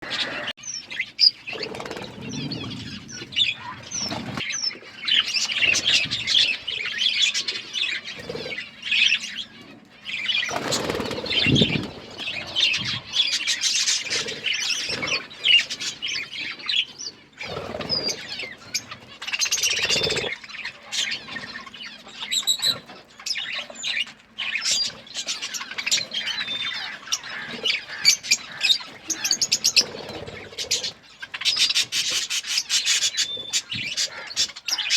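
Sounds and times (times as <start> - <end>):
budgerigars chirping and chattering: 0.1 - 34.9
wings fluttering and rustling: 1.2 - 6.7, 7.3 - 34.9.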